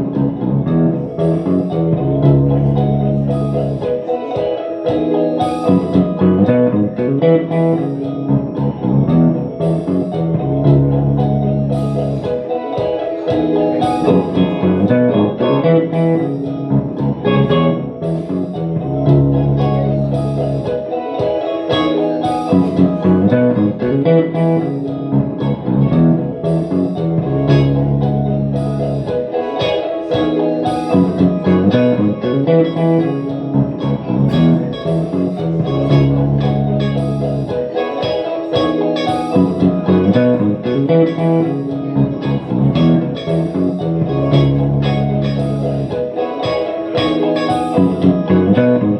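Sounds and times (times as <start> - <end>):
low bass notes: 0.0 - 4.1, 5.3 - 12.5, 13.5 - 20.9, 22.2 - 29.3, 30.1 - 37.8, 38.5 - 46.2, 47.0 - 48.9
electric guitar chords: 0.0 - 48.9.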